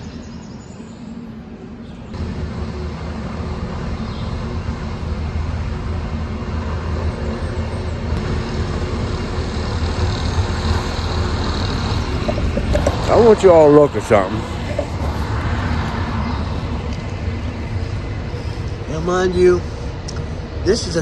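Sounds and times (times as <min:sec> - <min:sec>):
dump truck engine humming: 0:01.4 - 0:21.0.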